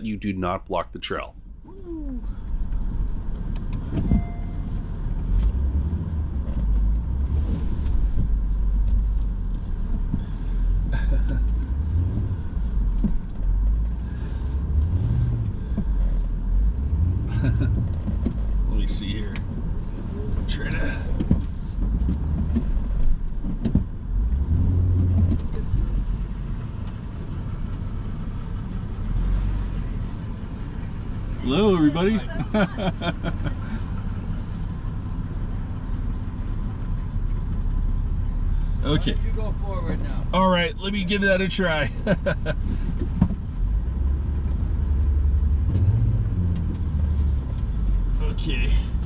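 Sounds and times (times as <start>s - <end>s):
vehicle rumbling over rough trail: 0.0s - 49.0s.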